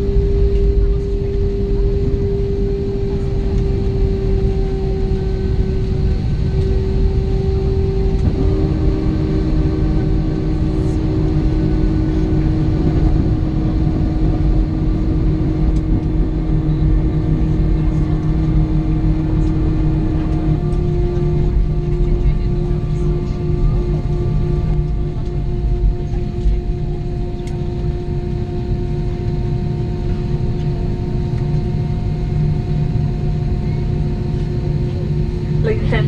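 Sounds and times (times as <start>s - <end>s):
aircraft cabin engine rumble: 0.0s - 36.0s
engine hum: 0.0s - 36.0s.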